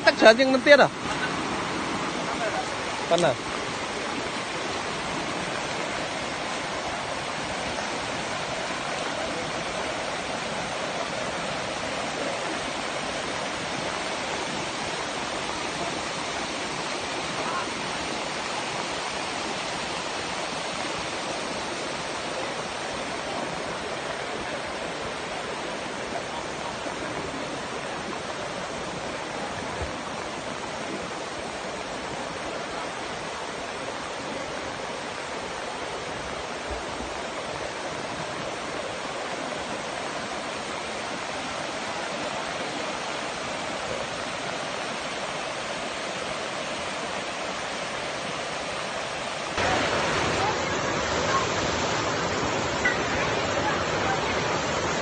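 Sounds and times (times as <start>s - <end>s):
waterfall rushing over rock: 0.0s - 55.0s.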